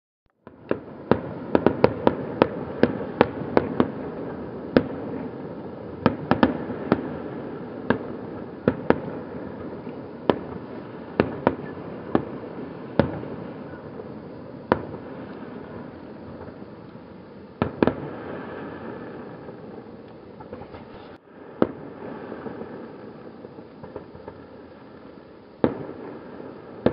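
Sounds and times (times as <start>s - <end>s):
fireworks bangs: 0.4s - 26.9s
steady background noise: 0.4s - 26.9s.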